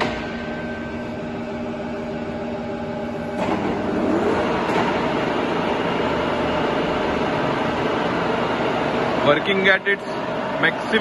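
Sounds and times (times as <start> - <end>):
milling machine spindle hum: 0.0 - 11.0.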